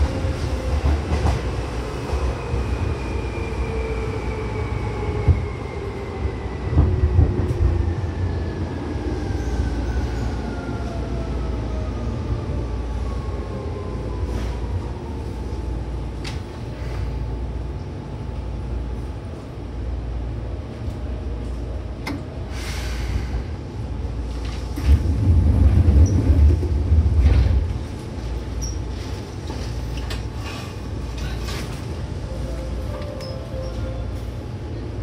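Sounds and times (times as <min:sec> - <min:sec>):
electric train wheels rumbling: 0:00.0 - 0:35.0.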